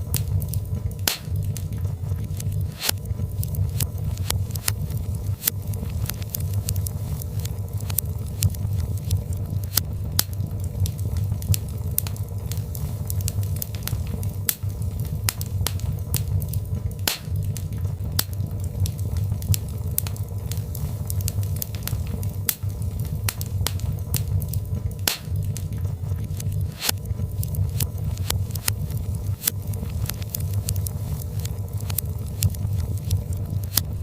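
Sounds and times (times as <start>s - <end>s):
fire crackles and pops: 0.0s - 34.0s
low rumble of flame: 0.0s - 34.0s.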